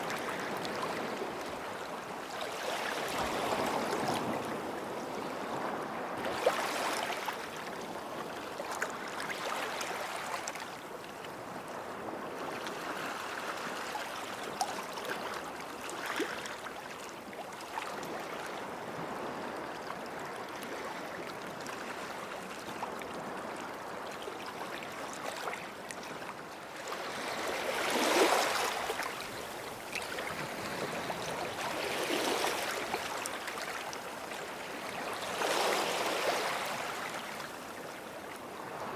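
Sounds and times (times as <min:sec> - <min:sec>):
small waves washing on shore: 0:00.0 - 0:38.9.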